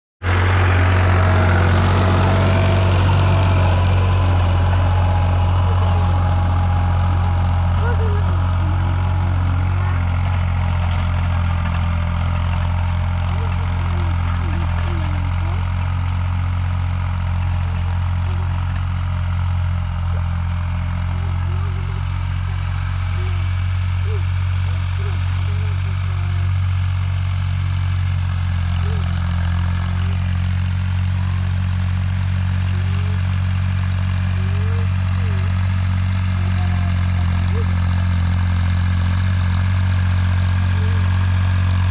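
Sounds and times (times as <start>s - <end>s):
diesel engine running steadily: 0.2s - 41.9s.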